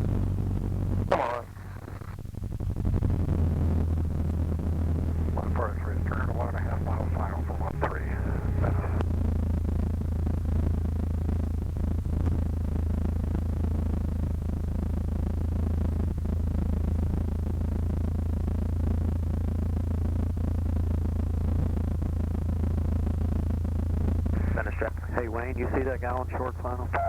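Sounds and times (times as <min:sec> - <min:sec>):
light aircraft engine drone: 0:00.0 - 0:27.0.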